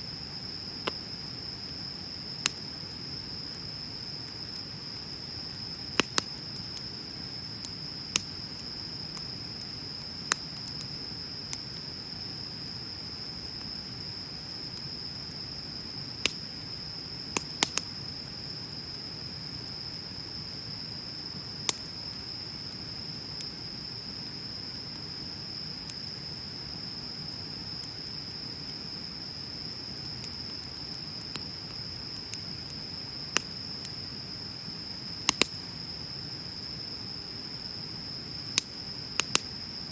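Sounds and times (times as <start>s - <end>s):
bonfire crackling: 0.0s - 39.9s
insect trill: 0.0s - 39.9s.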